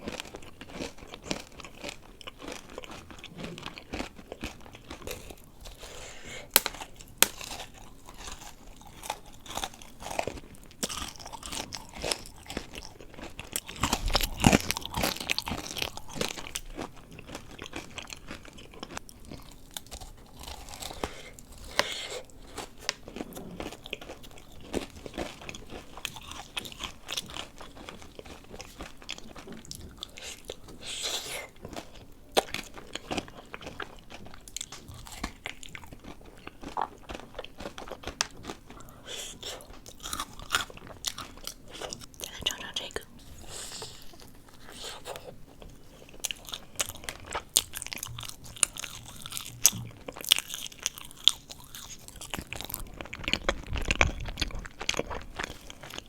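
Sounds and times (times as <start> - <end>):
crisp crunching and chewing: 0.0 - 56.0.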